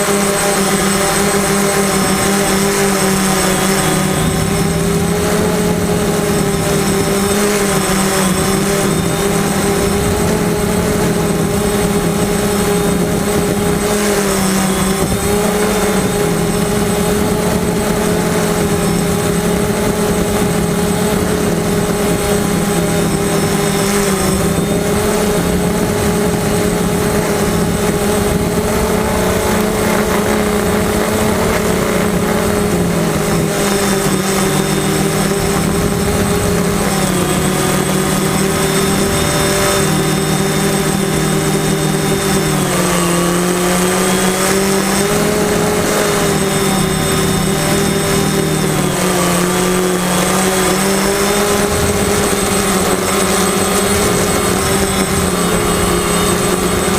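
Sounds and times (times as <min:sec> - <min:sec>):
drone motors whining: 0:00.0 - 0:56.9.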